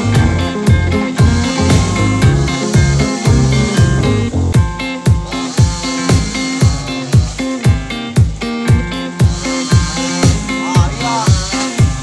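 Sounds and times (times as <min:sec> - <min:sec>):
music with beat and bass: 0:00.0 - 0:12.0.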